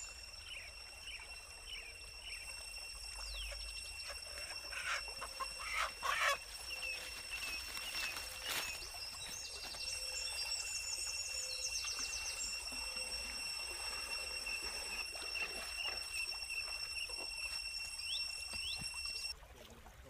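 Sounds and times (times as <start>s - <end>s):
bird chirps and trills: 0.0s - 19.3s
high insect tone: 0.0s - 19.4s.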